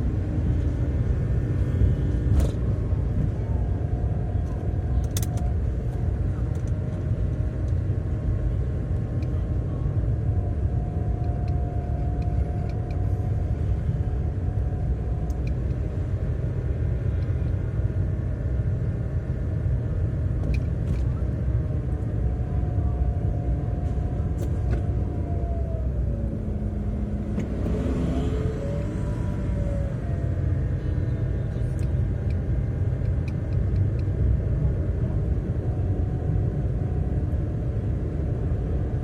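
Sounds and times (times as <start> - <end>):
engine and tyre rumble: 0.0 - 39.0.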